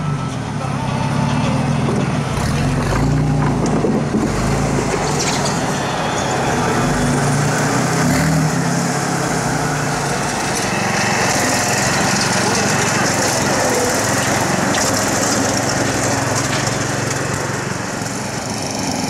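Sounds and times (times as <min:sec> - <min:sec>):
tractor engine running at low revs: 0:00.0 - 0:19.0.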